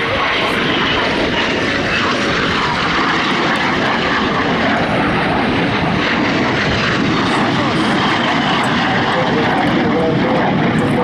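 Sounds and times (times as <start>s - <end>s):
jet aircraft rushing roar: 0.0s - 11.0s.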